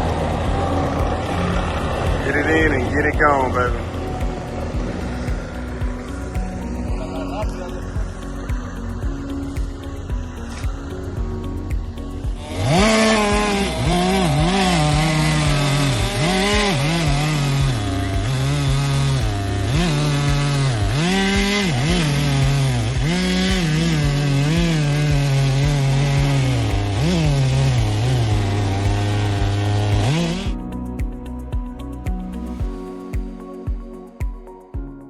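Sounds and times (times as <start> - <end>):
chainsaw cutting wood: 0.0 - 30.7.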